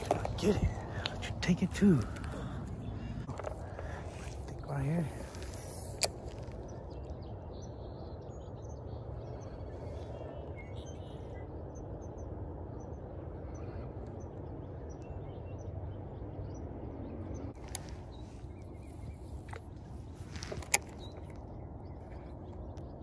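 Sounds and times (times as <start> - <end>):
low background rumble: 0.0 - 23.0
small bird chirping: 0.0 - 23.0.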